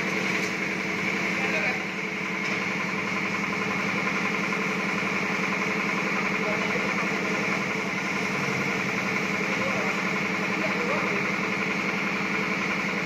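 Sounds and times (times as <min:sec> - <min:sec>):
motor idling: 0:00.0 - 0:13.0.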